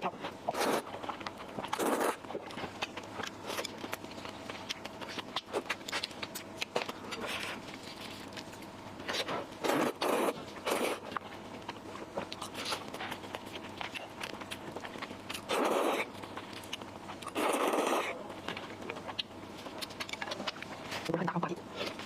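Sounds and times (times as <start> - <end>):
wet chewing: 0.2 - 22.0.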